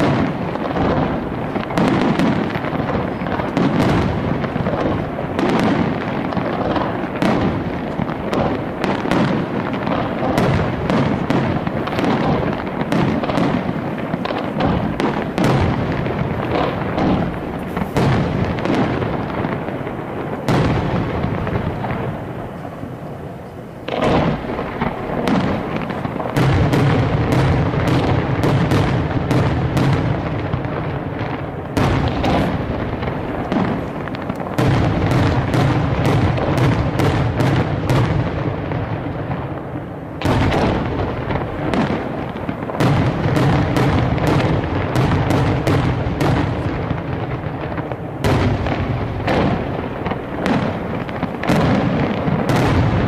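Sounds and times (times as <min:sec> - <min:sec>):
firework bangs: 0:00.0 - 0:53.0.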